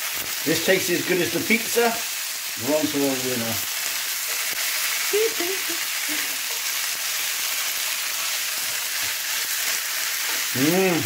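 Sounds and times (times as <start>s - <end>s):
rice sizzling in a frying pan: 0.0s - 11.0s.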